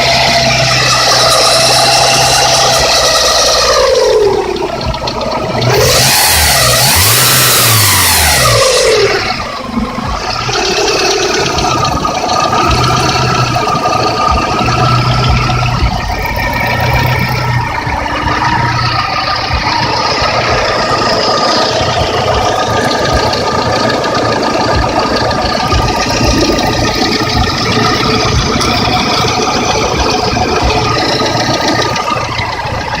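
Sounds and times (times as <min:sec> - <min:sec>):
car engine idling: 0:00.0 - 0:33.0
engine piston knock: 0:00.0 - 0:33.0.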